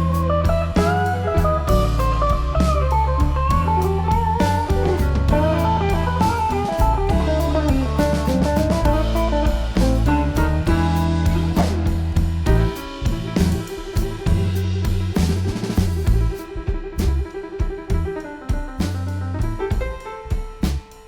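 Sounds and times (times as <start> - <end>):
guitar band music: 0.0 - 21.0.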